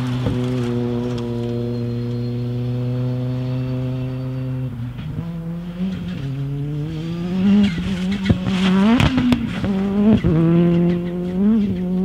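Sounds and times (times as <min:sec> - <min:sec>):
exhaust cracks: 0:00.0 - 0:12.0
race car engine revving: 0:00.0 - 0:12.0.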